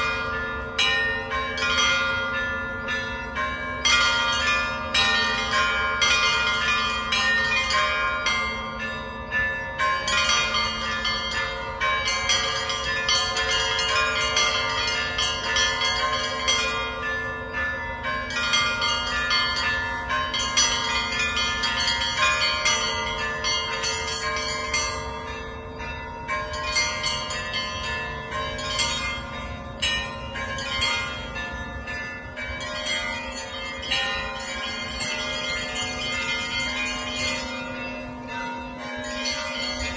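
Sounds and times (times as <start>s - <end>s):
large bells ringing: 0.0s - 39.9s
small church bells rapid strikes: 0.0s - 39.9s.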